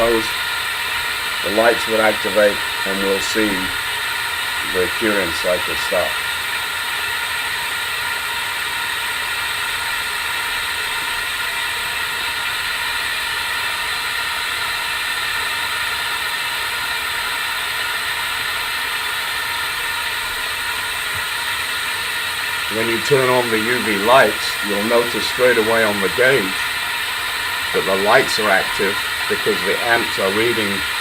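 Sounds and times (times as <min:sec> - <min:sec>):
compressed air hissing: 0:00.0 - 0:31.0.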